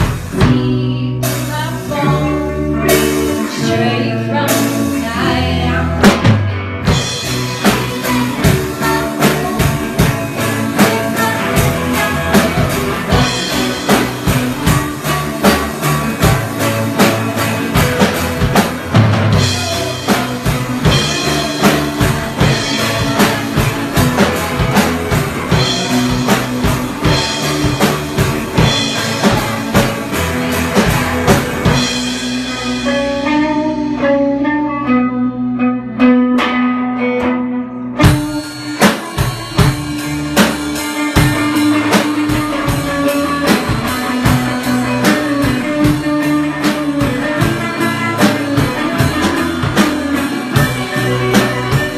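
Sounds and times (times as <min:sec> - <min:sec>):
drum kit: 0:00.0 - 0:35.1, 0:36.0 - 0:51.9
electric guitars playing: 0:00.0 - 0:51.9.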